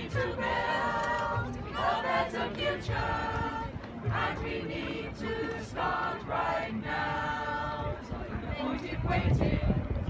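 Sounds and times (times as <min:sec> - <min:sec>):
small choir singing: 0:00.0 - 0:10.0.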